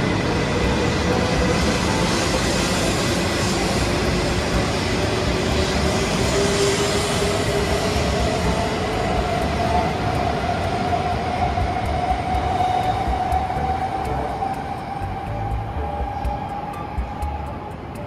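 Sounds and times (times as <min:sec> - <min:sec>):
train rushing rolling noise: 0:00.0 - 0:18.0.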